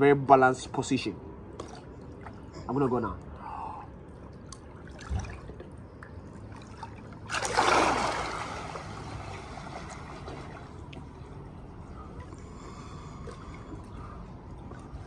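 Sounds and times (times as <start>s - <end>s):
water sloshing and splashing: 1.4s - 15.0s
water lapping: 1.6s - 3.1s, 3.8s - 15.0s.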